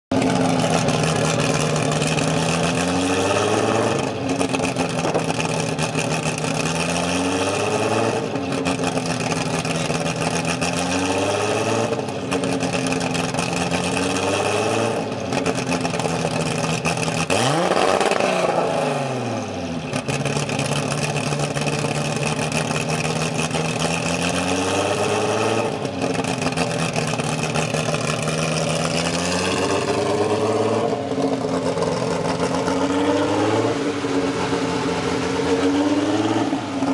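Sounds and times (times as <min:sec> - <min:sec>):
car engine idling unevenly: 0:00.1 - 0:36.9
engine revving: 0:00.1 - 0:36.9.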